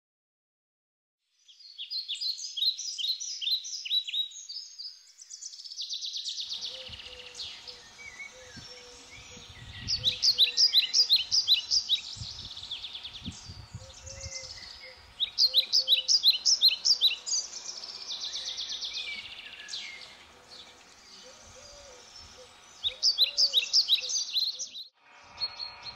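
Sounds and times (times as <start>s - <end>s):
songbird singing: 1.4s - 25.9s.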